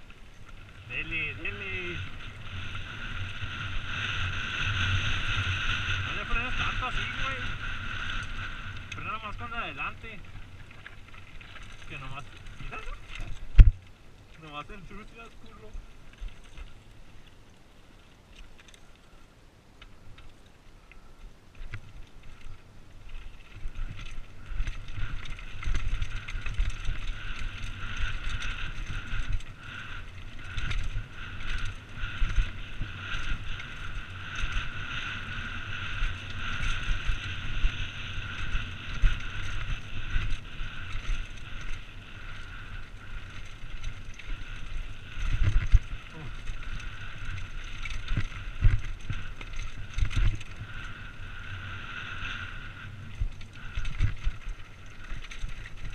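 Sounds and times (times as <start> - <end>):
wind rumble on microphone: 0.0 - 17.6, 19.9 - 55.9
bike rattling on gravel: 0.0 - 55.9.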